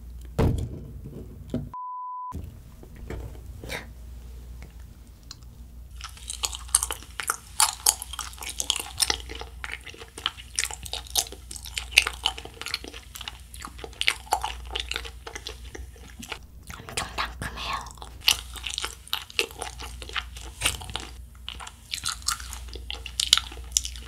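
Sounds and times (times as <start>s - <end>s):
chewing gummy candy: 4.6s - 24.0s.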